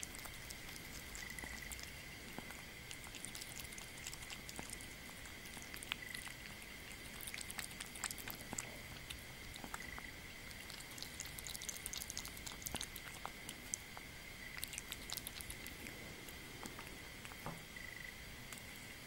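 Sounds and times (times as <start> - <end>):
faint high whine: 0.0 - 19.0
kitten chewing wet food: 0.0 - 19.0.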